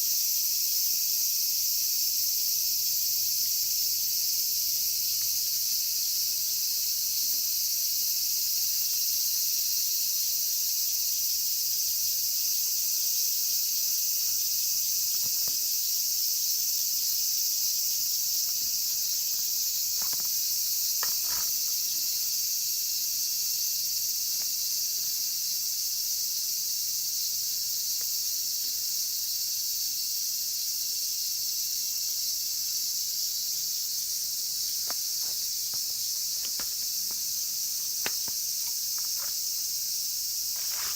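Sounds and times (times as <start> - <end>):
cicadas singing: 0.0 - 40.9.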